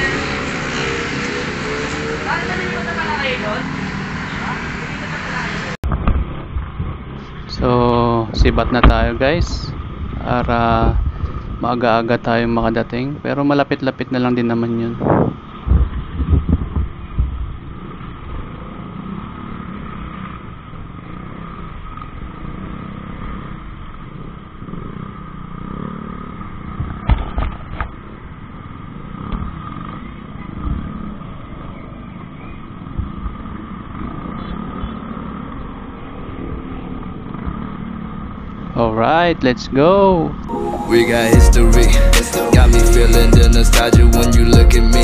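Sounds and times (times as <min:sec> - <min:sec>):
scooter engines humming: 0:00.0 - 0:45.0.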